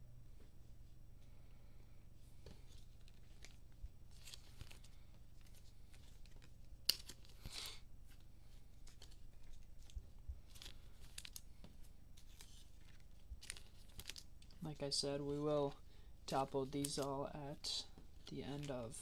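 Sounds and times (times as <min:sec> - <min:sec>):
faint steady hum: 0:00.0 - 0:19.0
cards and packaging rustling: 0:02.4 - 0:19.0.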